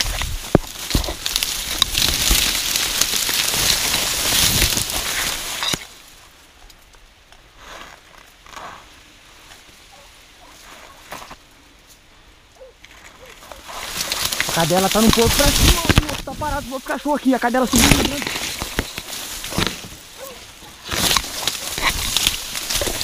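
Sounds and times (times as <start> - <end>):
vegetation crackling and rustling: 0.0 - 23.0.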